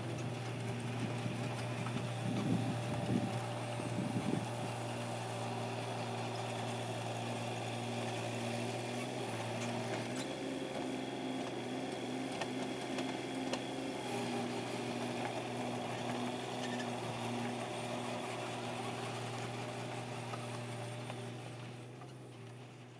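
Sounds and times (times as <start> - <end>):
excavator engine humming: 0.0 - 22.9.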